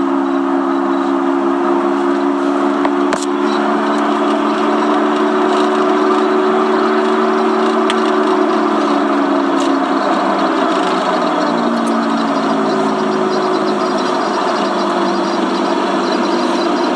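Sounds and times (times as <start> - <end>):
vehicle engine droning hum: 0.0 - 16.9.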